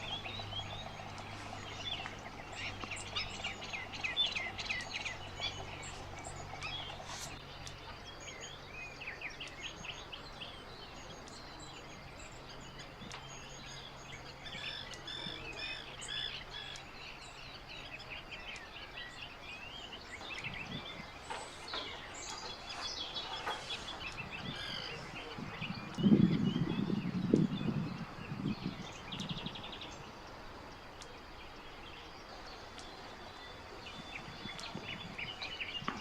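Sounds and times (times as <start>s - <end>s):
wild birds singing and calling: 0.0s - 36.0s.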